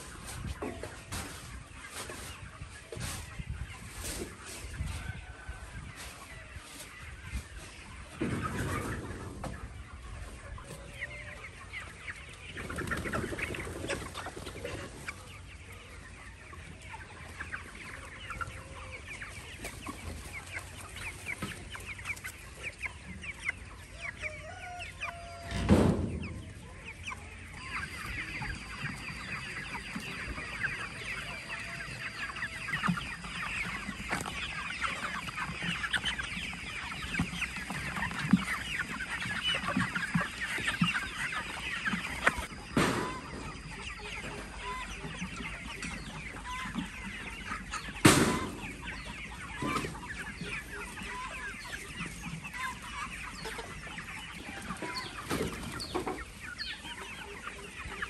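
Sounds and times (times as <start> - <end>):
poultry clucking and chirping: 0.0 - 58.0.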